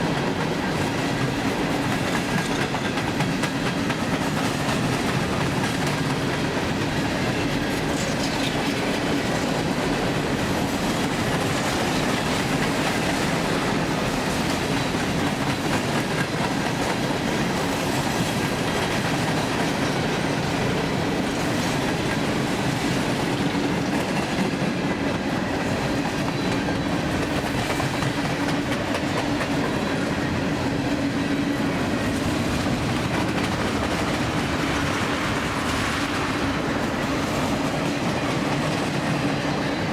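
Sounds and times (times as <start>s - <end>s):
freight train wheels on rail: 0.0s - 39.9s.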